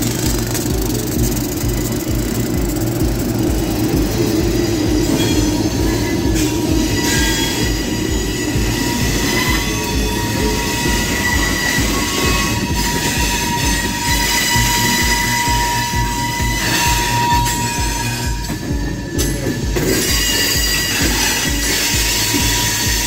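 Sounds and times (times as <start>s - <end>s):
diesel locomotive engine droning: 0.0s - 23.0s
train wheels clattering on rails: 0.0s - 23.0s
wheel flanges squealing: 0.0s - 23.0s.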